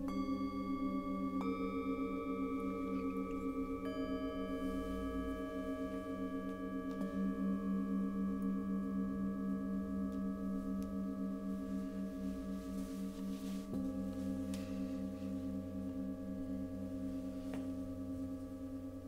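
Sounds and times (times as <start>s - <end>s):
metal singing bowls ringing: 0.0s - 19.0s.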